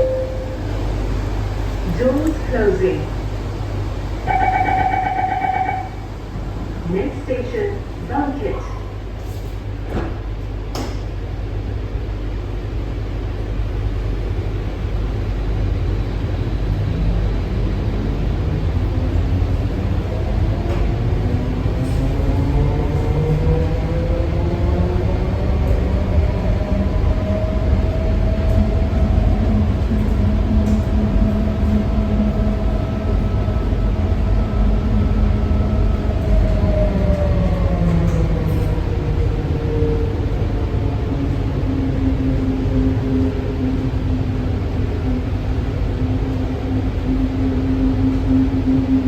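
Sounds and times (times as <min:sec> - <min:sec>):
train low rumble: 0:00.0 - 0:49.0.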